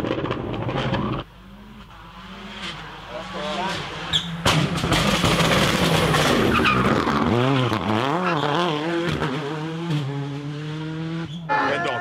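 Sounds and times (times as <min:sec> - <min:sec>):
rally car engine revving: 0:00.0 - 0:12.0
tyres skidding on tarmac: 0:00.0 - 0:12.0.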